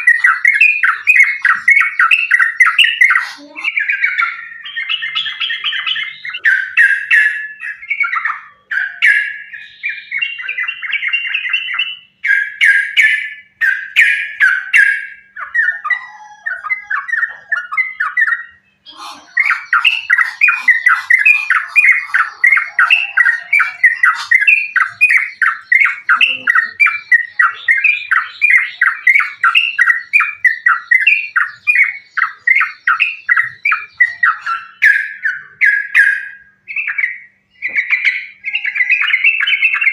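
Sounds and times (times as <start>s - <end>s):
bird rapid chattering song: 0.0s - 39.9s.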